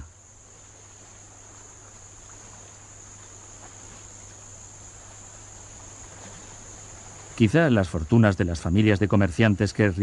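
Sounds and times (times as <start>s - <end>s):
insects chirring: 0.0s - 10.0s
low steady hum: 0.0s - 10.0s.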